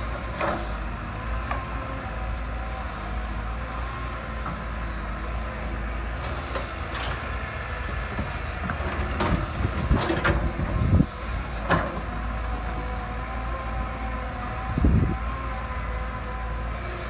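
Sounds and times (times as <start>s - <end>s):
heavy machinery rumbling: 0.0s - 17.0s.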